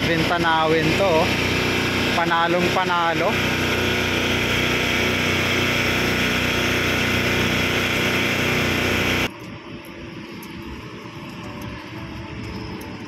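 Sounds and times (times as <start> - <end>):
city background: 0.0 - 13.0
engine humming: 0.0 - 13.0.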